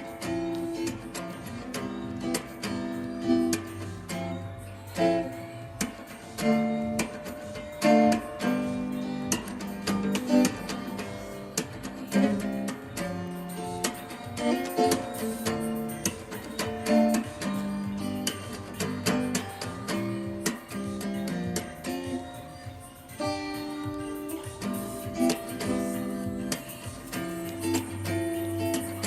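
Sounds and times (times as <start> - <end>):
plucked acoustic guitar music: 0.0 - 29.0.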